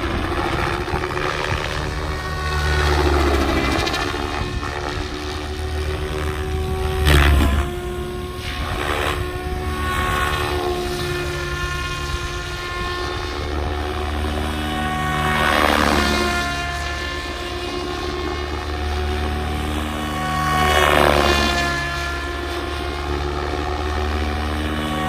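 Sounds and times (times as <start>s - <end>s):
rotor blades whooshing: 0.0s - 22.0s
electric motor whine: 0.0s - 25.0s.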